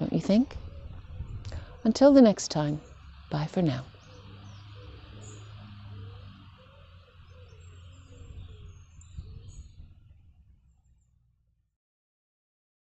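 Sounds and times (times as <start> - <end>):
steady low rumble: 0.0 - 11.7
faint bird chirps: 0.2 - 11.3.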